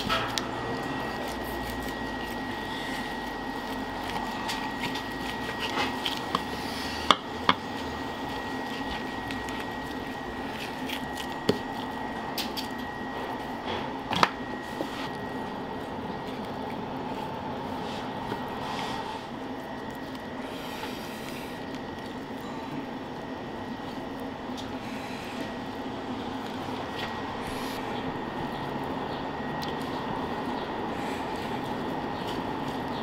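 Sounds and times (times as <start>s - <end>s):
background hum: 0.0s - 33.0s
faint high whine: 0.0s - 33.0s.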